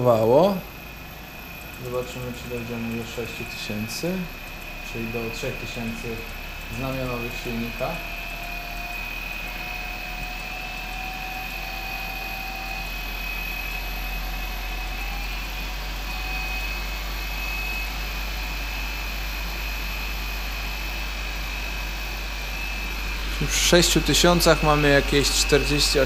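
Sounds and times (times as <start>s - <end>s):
electric motor whine: 0.0s - 26.0s.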